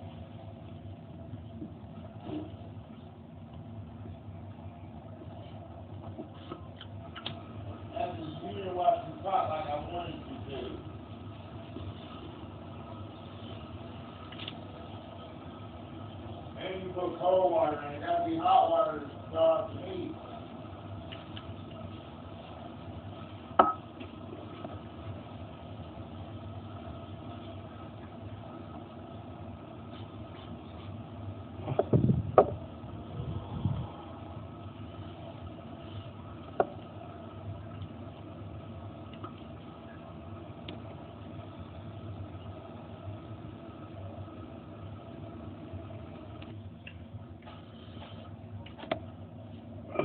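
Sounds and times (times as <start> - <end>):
mechanical hum: 0.0 - 50.0.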